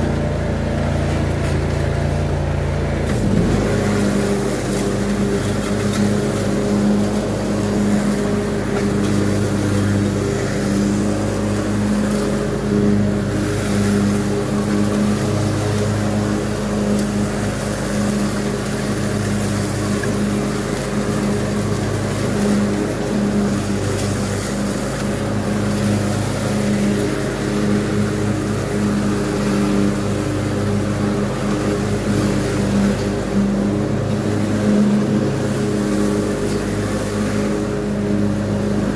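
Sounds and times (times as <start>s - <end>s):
riding mower engine running: 0.0s - 38.9s.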